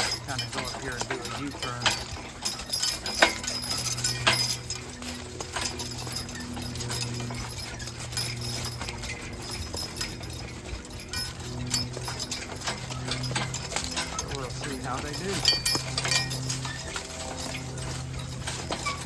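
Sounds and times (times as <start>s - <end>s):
horse hooves clopping: 0.0s - 19.0s
steady low hum: 0.0s - 19.0s.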